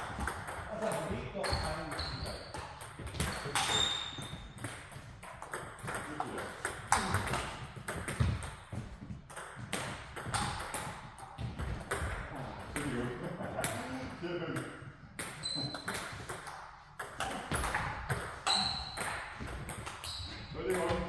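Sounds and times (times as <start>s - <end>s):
table tennis balls clicking: 0.0s - 8.7s, 9.3s - 13.8s, 14.6s - 21.0s.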